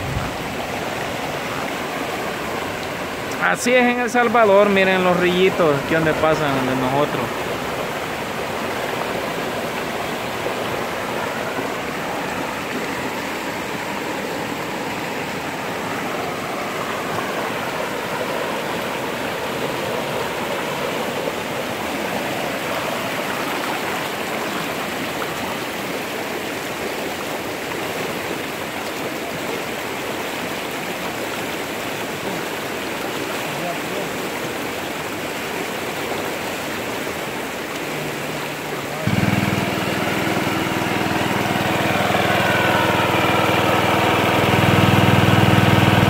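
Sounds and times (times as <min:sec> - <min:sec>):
flooded stream rushing over rocks: 0:00.0 - 0:46.0.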